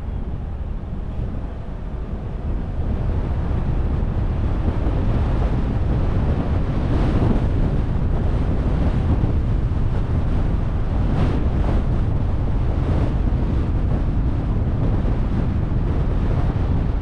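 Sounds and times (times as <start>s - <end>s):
car road and wind noise: 0.0s - 17.0s
wind buffeting microphone: 0.0s - 17.0s.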